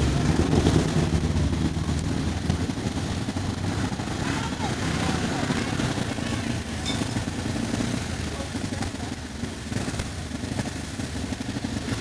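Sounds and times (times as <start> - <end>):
people's voices: 0.0 - 10.7
racing car engine running: 0.0 - 12.0.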